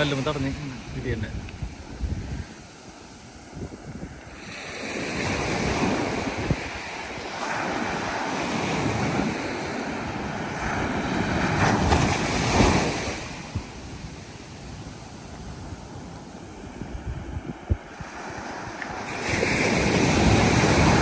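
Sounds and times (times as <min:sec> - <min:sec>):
waves breaking on beach: 0:00.0 - 0:21.0.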